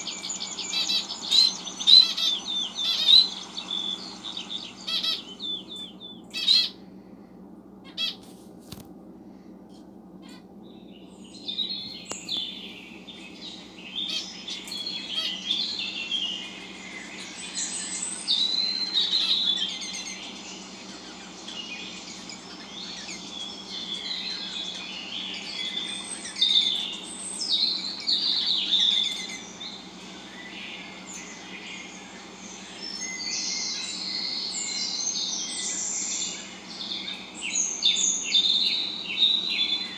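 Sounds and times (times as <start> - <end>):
small birds chirping: 0.0 - 8.8, 10.2 - 39.9.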